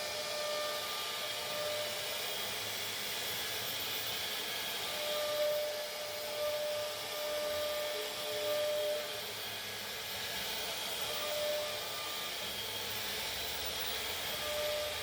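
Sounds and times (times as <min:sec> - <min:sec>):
hiss of cutting plastic: 0:00.0 - 0:15.0
router spindle whining: 0:00.0 - 0:15.0.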